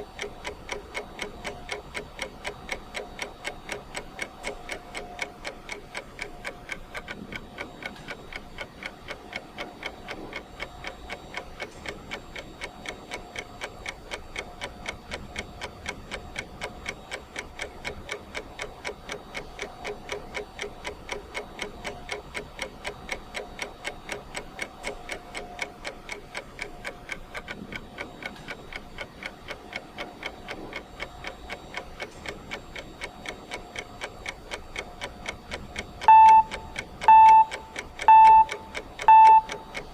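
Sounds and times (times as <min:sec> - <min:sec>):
clock ticking fast: 0:00.0 - 0:39.9.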